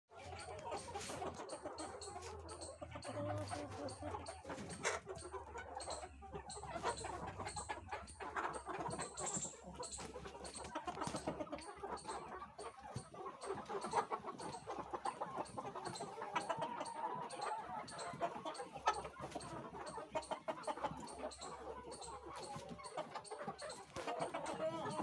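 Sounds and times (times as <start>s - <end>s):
chickens clucking: 0.1s - 25.0s.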